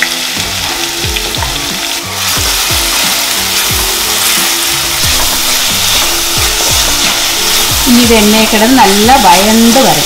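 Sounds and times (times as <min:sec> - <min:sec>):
background music with beat: 0:00.0 - 0:08.4
paste sizzling in hot oil: 0:00.0 - 0:10.0.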